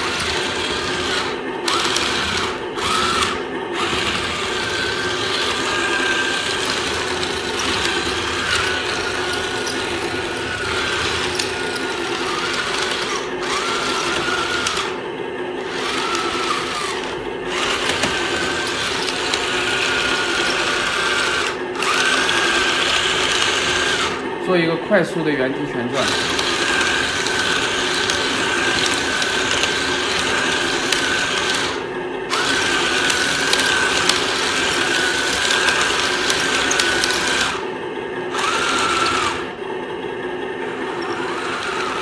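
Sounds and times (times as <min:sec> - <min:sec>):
toy tank motors whining: 0:00.0 - 0:39.6, 0:40.6 - 0:42.0.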